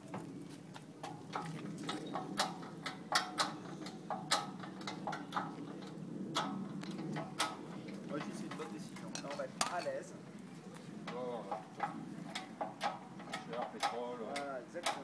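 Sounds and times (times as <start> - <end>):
metallic clicks and clanks of crane: 1.0 - 10.0, 11.0 - 15.0.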